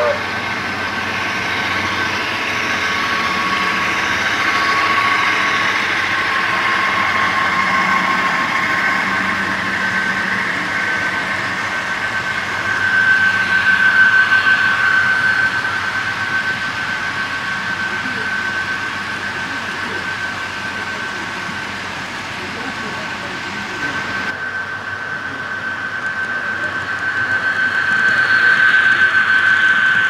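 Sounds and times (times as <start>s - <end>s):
model train humming and whining: 0.0s - 30.0s.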